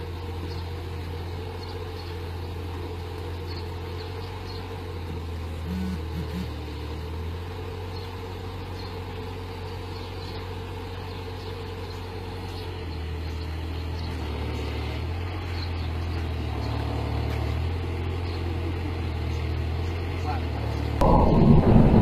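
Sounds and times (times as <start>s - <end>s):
large engine humming: 0.0s - 22.0s.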